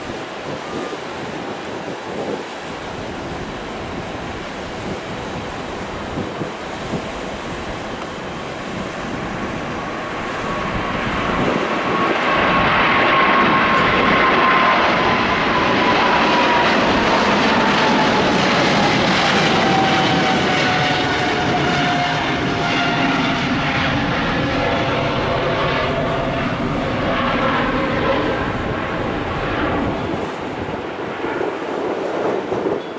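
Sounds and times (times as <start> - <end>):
jet engine whine falling: 0.0 - 32.9
jet engines passing: 0.0 - 32.9.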